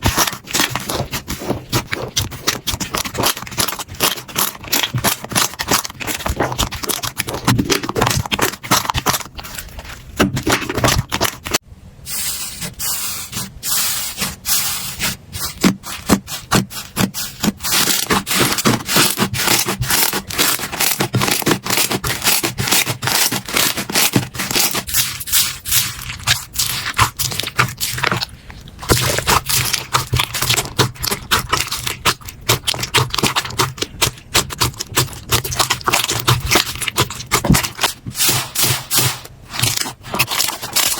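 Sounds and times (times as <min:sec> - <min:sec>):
slime crackling and popping: 0:00.0 - 0:11.6, 0:15.9 - 0:40.9.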